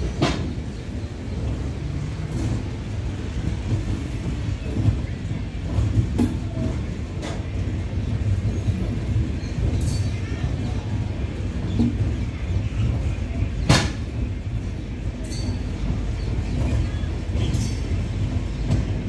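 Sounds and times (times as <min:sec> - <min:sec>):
rumble of train wheels on track: 0:00.0 - 0:19.0.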